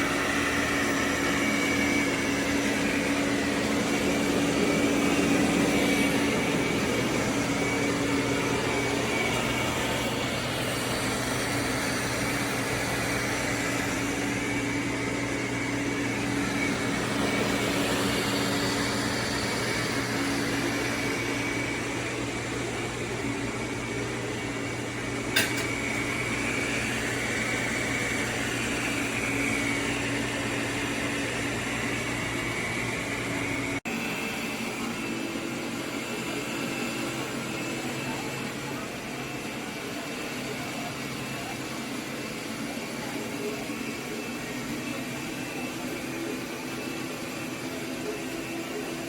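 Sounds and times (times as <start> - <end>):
robot vacuum motor whine: 0.0 - 49.0.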